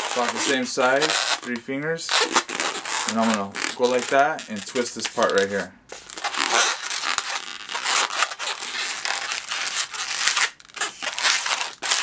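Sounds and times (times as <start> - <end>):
balloon rubbing and squeaking: 0.0 - 12.0.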